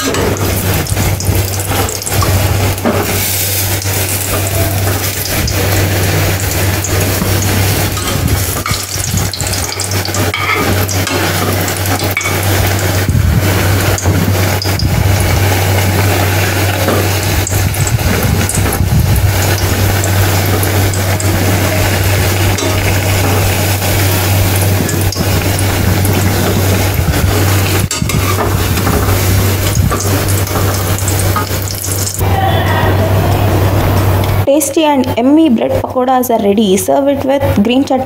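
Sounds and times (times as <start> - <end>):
food sizzling in hot oil: 0.0 - 32.2
metal skimmer scraping a pan: 0.0 - 32.2.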